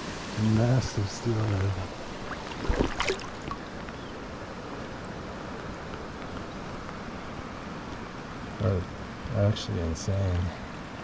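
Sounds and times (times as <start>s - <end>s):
river current flowing: 0.0s - 11.0s.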